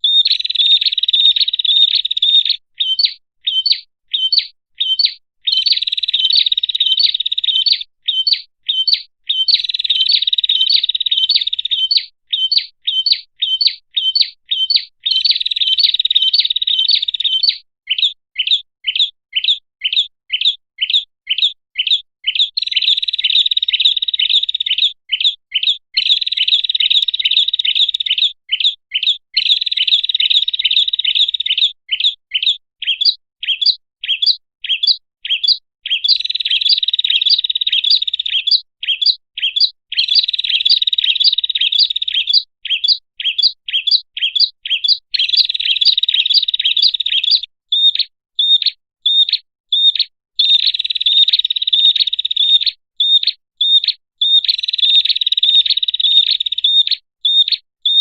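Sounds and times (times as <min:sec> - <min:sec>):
sharp high bird chirps: 0:00.0 - 0:58.0.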